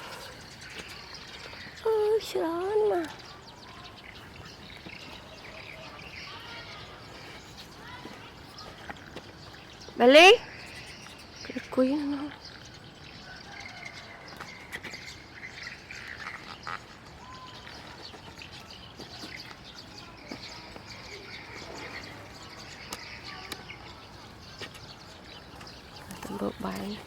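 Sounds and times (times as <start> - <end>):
birds chirping: 0.0 - 27.0
outdoor background noise: 0.0 - 27.0.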